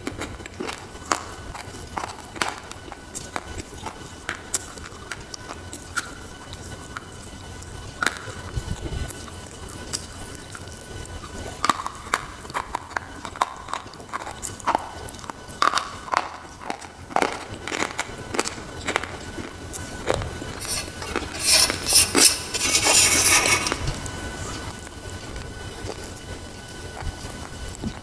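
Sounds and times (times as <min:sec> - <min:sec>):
crunchy chewing: 0:00.0 - 0:28.0.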